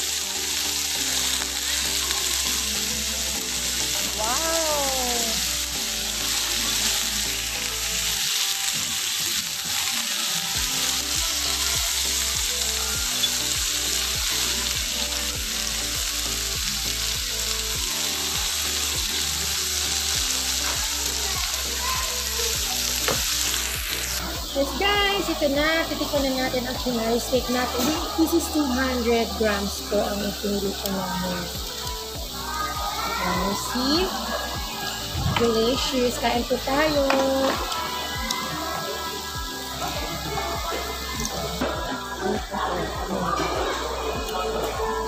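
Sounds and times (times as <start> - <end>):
steak sizzling on hot plate: 0.0 - 45.0.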